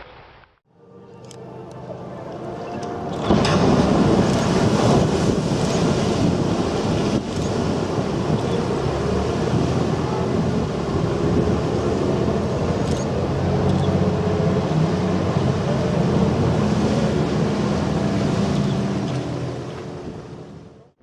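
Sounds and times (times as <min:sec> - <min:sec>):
ship engine humming: 0:00.7 - 0:21.0
wind noise on microphone: 0:02.9 - 0:20.8.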